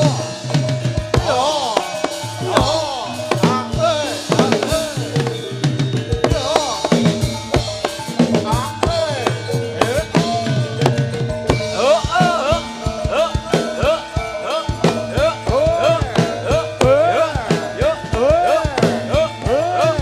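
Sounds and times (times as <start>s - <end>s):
hand drums fast rhythm: 0.0s - 20.0s
held ringing tones: 0.0s - 20.0s
pitch-bending melody: 0.0s - 20.0s.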